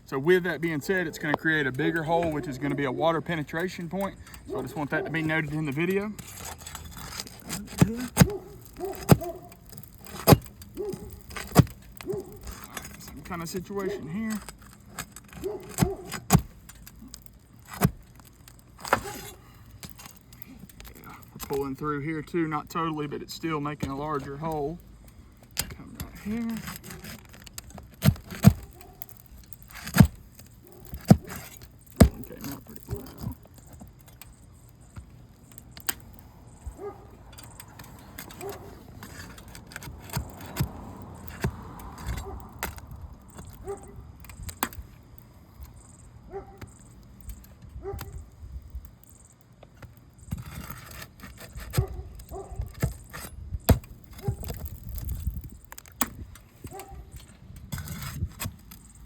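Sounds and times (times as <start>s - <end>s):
metal bar prying roofing nails: 1.1s - 21.7s, 23.8s - 44.9s, 49.8s - 59.0s.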